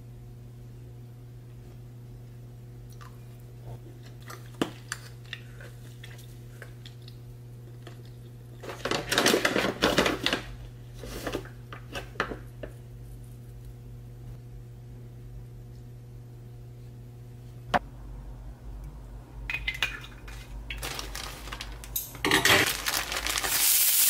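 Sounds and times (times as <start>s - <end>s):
low steady hum: 0.0s - 23.7s.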